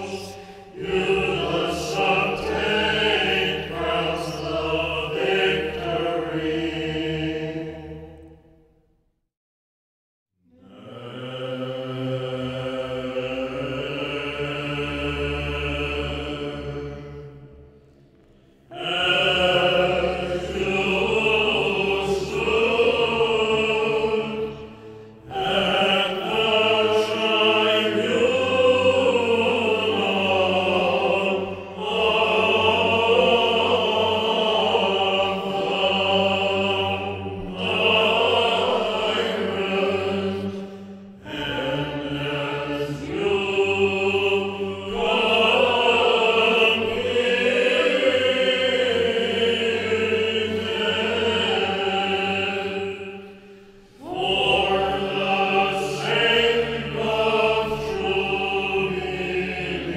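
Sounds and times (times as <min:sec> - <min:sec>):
melismatic chant singing: 0:00.0 - 0:08.4, 0:10.5 - 0:59.9.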